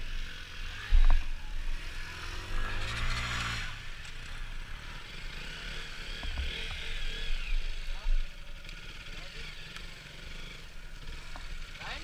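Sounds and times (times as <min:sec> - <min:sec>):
engines idling: 0:00.0 - 0:12.0
small motorcycle engine revving: 0:00.0 - 0:12.0
wind: 0:00.0 - 0:12.0.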